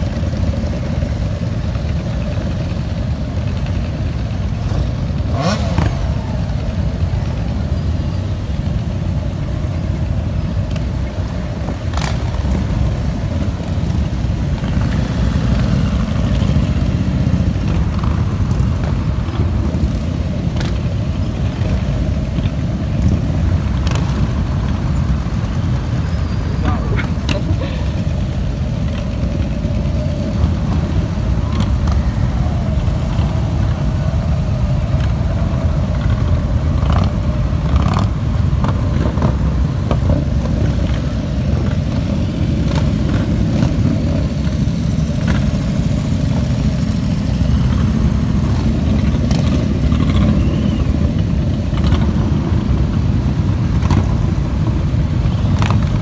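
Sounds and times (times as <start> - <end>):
motorcycle engines droning: 0.0 - 56.0.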